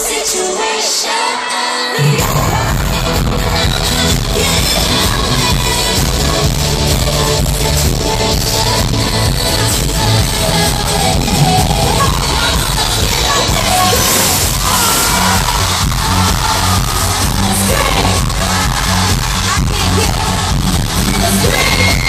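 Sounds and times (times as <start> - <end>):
girl group singing over dance track: 0.0 - 22.0.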